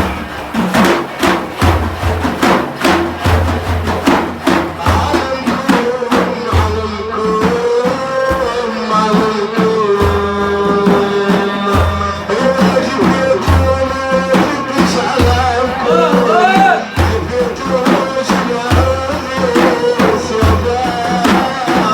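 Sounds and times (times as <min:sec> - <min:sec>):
frame drums beating: 0:00.0 - 0:21.9.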